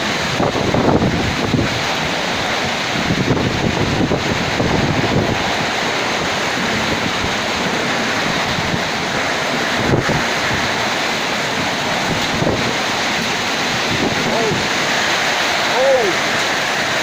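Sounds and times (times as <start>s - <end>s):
heavy rain: 0.0s - 17.0s
wind buffeting microphone: 0.0s - 17.0s.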